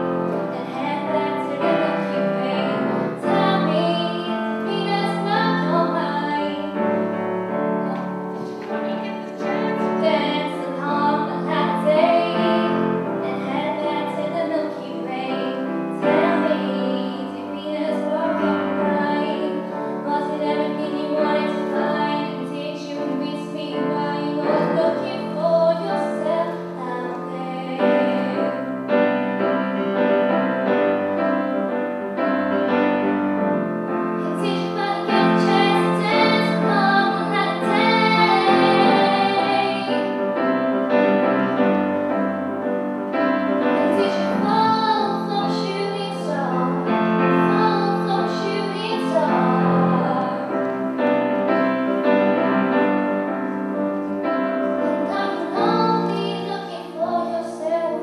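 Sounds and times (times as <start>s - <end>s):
grand piano: 0.0s - 58.0s.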